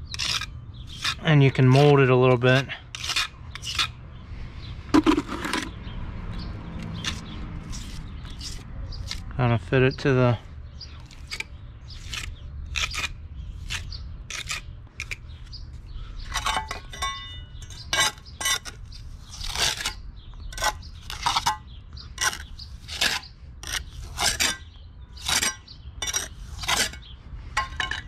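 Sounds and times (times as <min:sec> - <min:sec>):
trowel scraping wet cement: 0:00.1 - 0:04.0, 0:05.0 - 0:05.8, 0:06.8 - 0:09.3, 0:10.9 - 0:15.5, 0:16.3 - 0:27.1.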